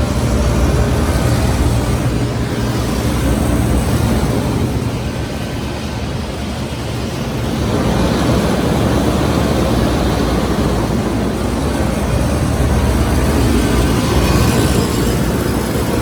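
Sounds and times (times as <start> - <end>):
low compressor hum: 0.0 - 6.3, 9.2 - 16.0
condenser fan rushing: 0.0 - 16.0.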